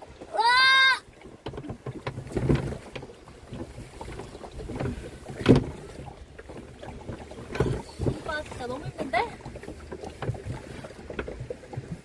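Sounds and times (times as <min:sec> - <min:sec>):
paddle strokes splashing water: 0:00.0 - 0:12.0.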